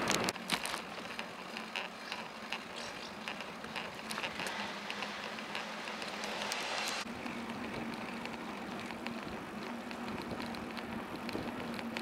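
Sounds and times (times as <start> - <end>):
bicycle tyres rolling on asphalt: 0.0 - 12.0
bike clicks and rattles: 0.0 - 12.0.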